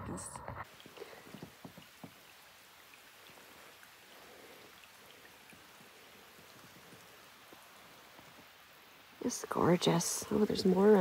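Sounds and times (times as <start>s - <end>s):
light rain hiss: 0.2s - 11.0s
soft raindrop ticks: 0.6s - 11.0s.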